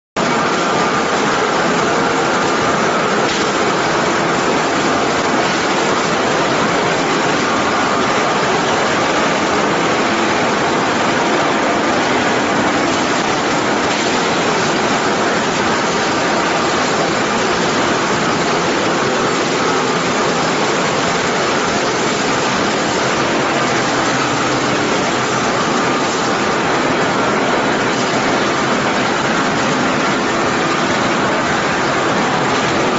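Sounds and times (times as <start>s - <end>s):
machinery and water rushing: 0.2s - 32.9s.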